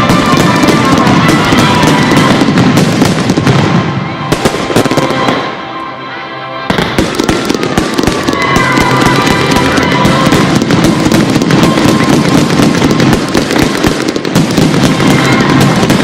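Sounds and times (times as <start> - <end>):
fireworks crackling bursts: 0.0 - 6.0, 6.6 - 16.0
loud music soundtrack: 0.0 - 16.0.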